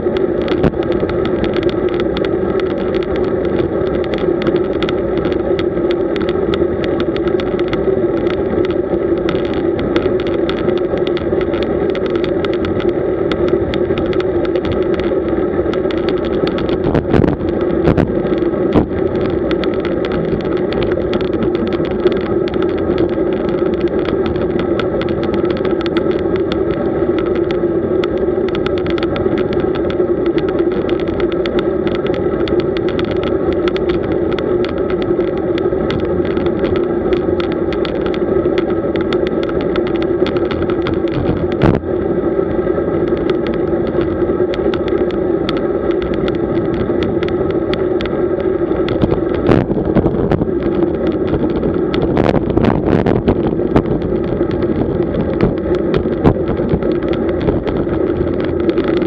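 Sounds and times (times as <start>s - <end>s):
bicycle riding noise: 0.0s - 59.0s.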